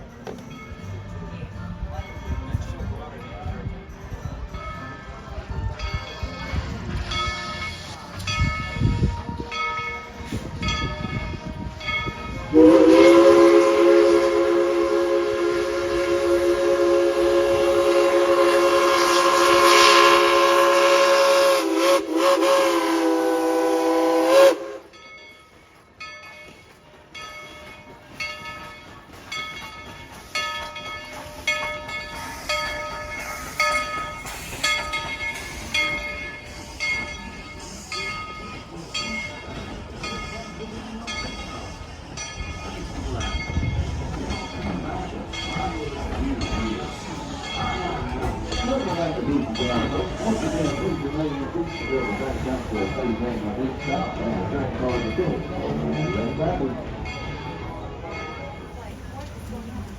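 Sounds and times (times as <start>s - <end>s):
locomotive bell ringing: 0.0s - 59.3s
steam locomotive chime whistle: 0.2s - 59.2s.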